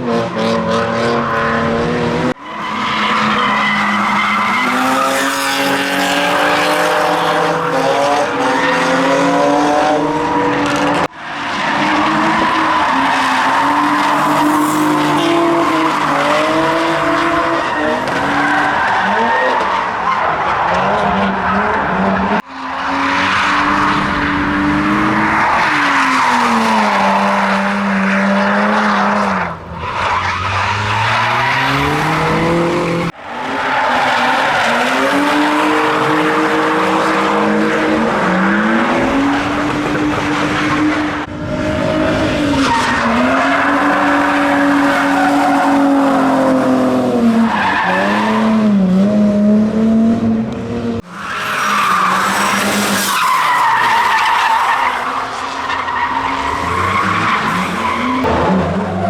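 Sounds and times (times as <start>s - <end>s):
tyres squealing and skidding: 0.0s - 49.4s, 50.8s - 59.0s
car engines revving: 0.0s - 59.0s.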